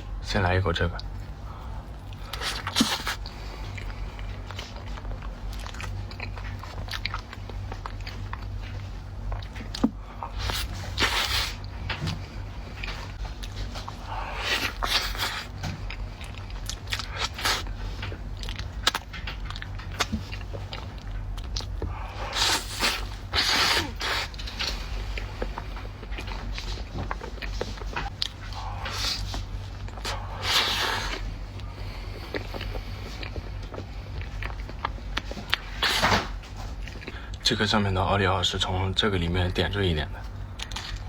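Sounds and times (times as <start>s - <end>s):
steady low hum: 0.0s - 41.0s
wet chewing: 1.0s - 37.4s.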